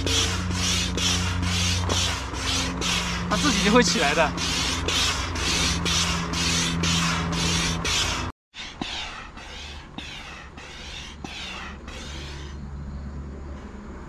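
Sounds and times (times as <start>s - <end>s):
hand air pump hissing strokes: 0.0s - 12.6s
low steady rumble: 0.0s - 14.0s.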